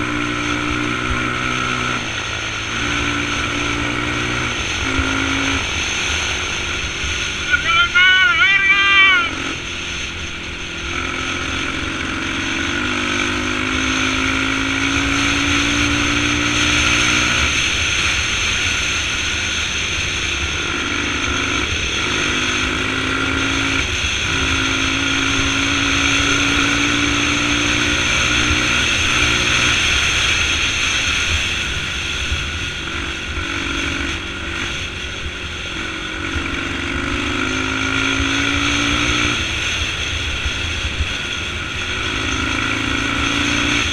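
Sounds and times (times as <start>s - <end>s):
motorcycle engine revving: 0.0s - 43.9s
steady rushing noise: 0.0s - 43.9s.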